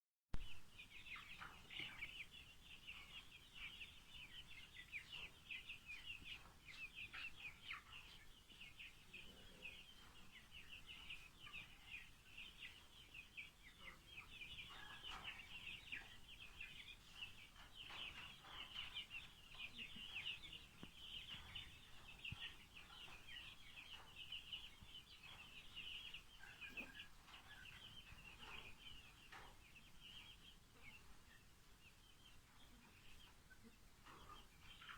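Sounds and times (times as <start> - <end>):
chickens chirping: 0.4 - 34.9.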